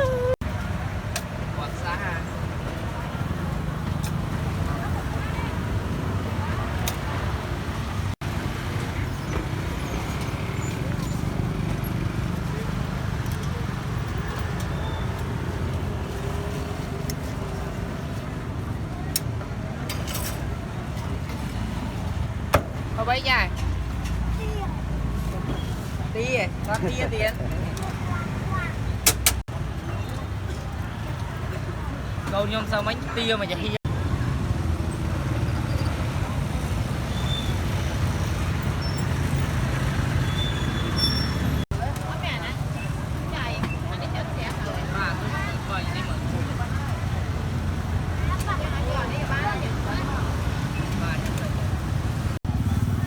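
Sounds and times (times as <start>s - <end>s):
street traffic rumble: 0.0s - 53.0s.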